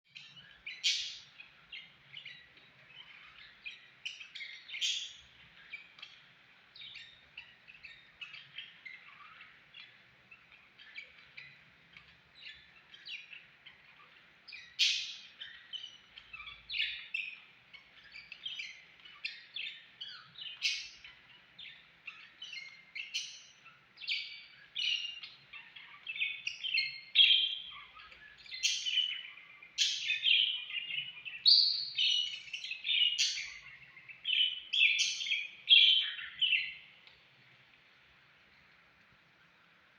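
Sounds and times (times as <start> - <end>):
parrots chirping and chattering: 0.1 - 39.9.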